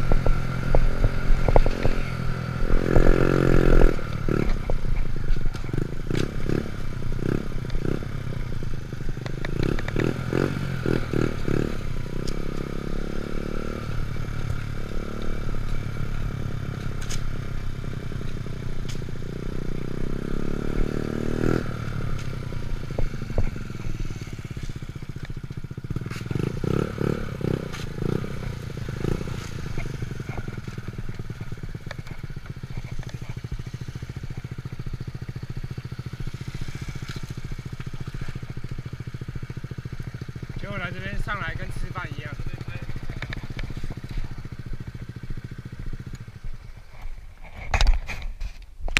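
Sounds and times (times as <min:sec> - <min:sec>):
small motorcycle engine revving: 0:00.0 - 0:48.3
wind: 0:00.0 - 0:48.9.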